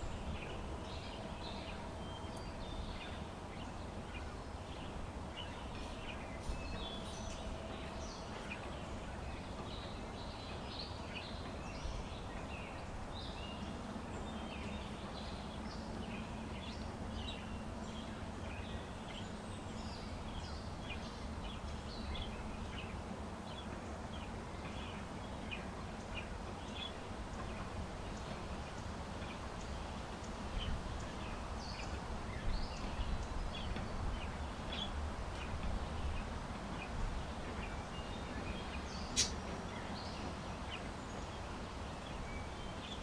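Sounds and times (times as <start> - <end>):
low wind noise: 0.0 - 43.0
small birds chirping: 0.0 - 43.0.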